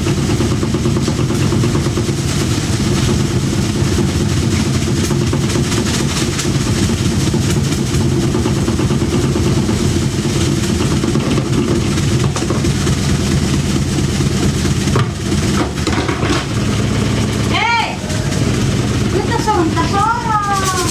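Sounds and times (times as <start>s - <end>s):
drum rattling: 0.0s - 20.9s
washing machine spin cycle: 0.0s - 20.9s.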